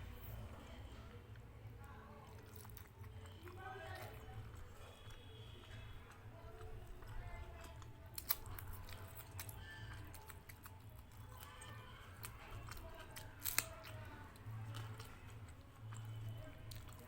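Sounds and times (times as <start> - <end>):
chewing: 0.0 - 17.0
faint low hum: 0.0 - 17.0.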